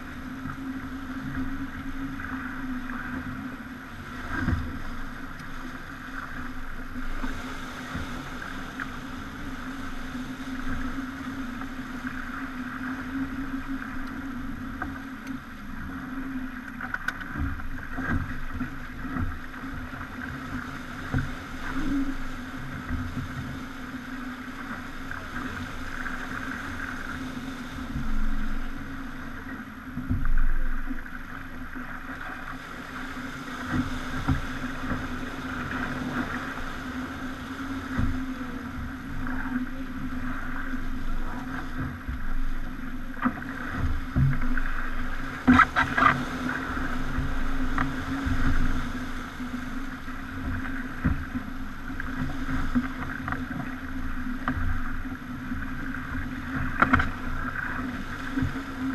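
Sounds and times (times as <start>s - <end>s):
rushing water: 0.0s - 58.9s
water surges: 0.0s - 58.9s
yacht drone: 0.0s - 58.9s.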